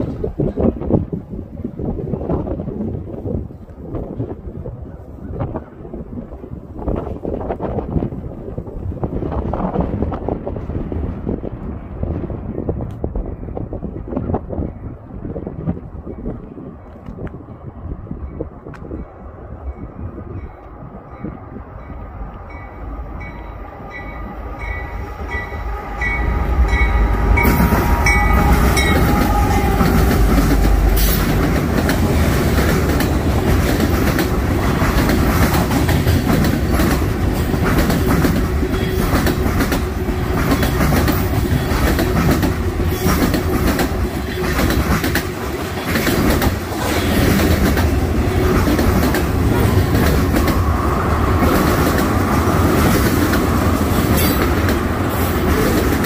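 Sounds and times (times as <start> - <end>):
locomotive heavy rumble: 6.0 - 56.0.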